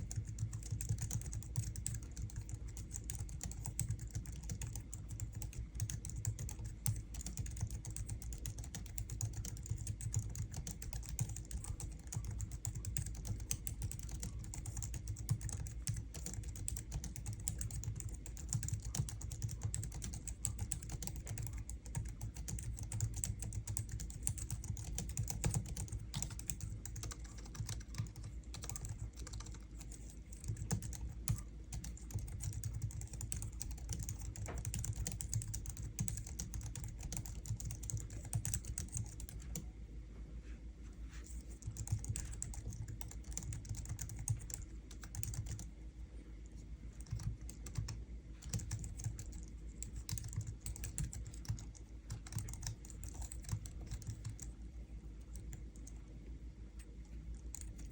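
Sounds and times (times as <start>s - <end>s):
keyboard typing: 0.0s - 39.7s, 41.2s - 45.7s, 46.5s - 54.6s, 55.2s - 56.1s, 56.8s - 57.9s.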